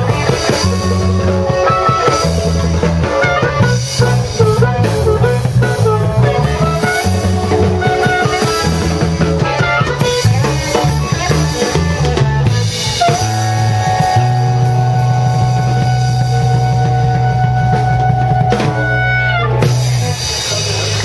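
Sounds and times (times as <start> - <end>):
music with drums and bass: 0.0 - 21.0.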